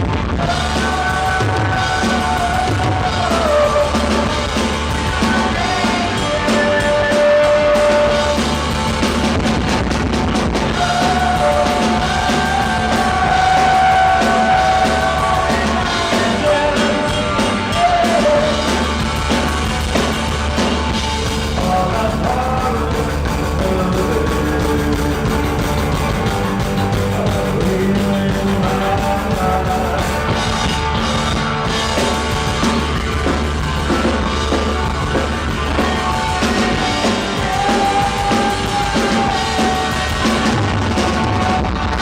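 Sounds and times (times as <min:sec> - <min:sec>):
drum kit beat: 0:00.0 - 0:42.0
rock band playing live: 0:00.0 - 0:42.0.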